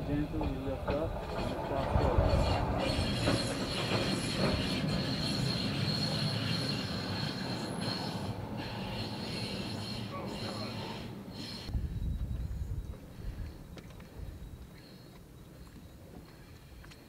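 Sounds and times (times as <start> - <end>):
high steady train squeal: 0.0 - 17.0
rumble of railcars: 0.0 - 17.0.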